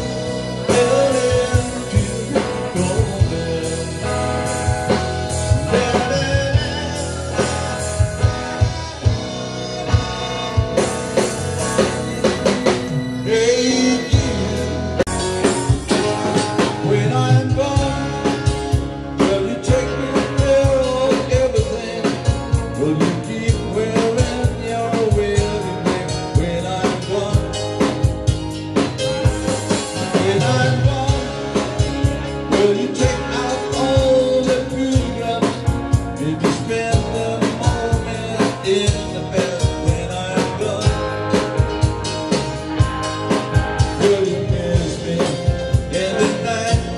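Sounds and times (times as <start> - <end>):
drum kit beat: 0.0 - 46.9
electric bass: 0.0 - 46.9
electric guitar: 0.0 - 46.9
keyboard: 0.0 - 46.9.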